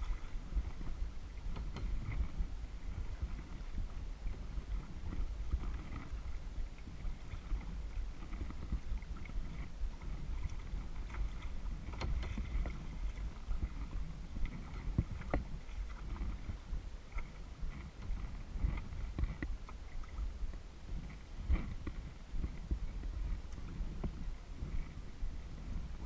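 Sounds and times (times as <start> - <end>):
paddle splashing in water: 0.0 - 26.0
wind on microphone: 0.0 - 26.0.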